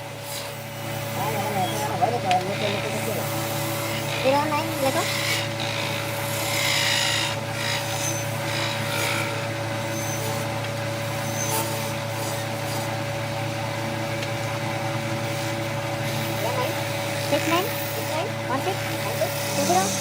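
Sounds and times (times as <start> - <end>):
steady machine hum: 0.0 - 20.0
hand tool scraping wood: 1.3 - 13.0, 15.2 - 20.0.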